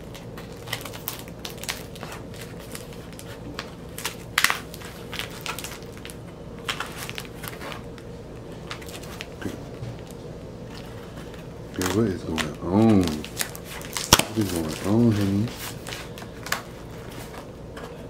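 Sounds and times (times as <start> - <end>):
cardboard crackling: 0.0 - 18.0.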